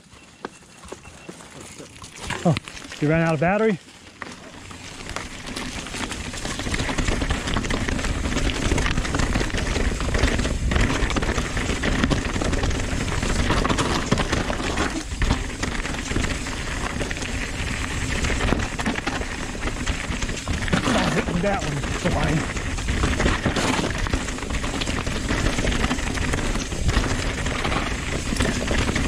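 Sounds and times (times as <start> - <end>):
tyres crunching over dirt and rock: 0.0 - 29.0
bike clattering over bumps: 0.4 - 29.0
wind rumbling on microphone: 5.0 - 29.0.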